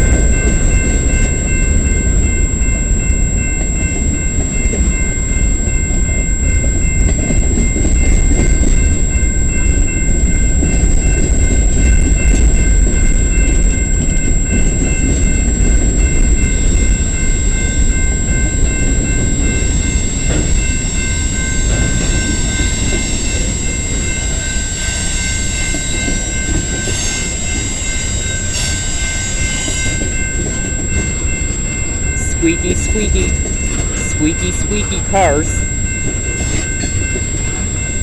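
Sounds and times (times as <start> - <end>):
steel wheels rumbling on rail: 0.0 - 38.0.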